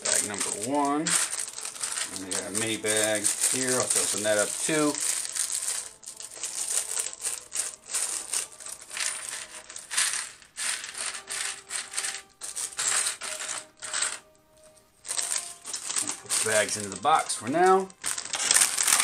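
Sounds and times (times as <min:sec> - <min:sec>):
plastic bricks clattering: 0:00.0 - 0:14.2, 0:15.1 - 0:19.0
plastic bag crinkling: 0:00.0 - 0:19.0.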